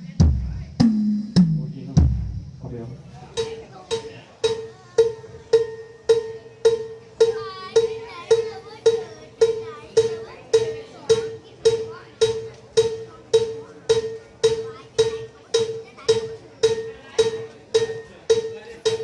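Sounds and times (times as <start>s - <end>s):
percussion hits on one note: 3.4s - 19.0s.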